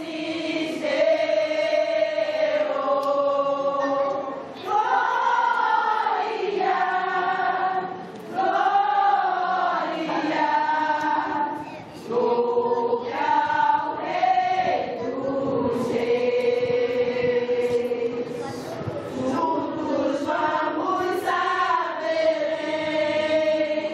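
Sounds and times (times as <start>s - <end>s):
women's choir singing: 0.0s - 23.9s.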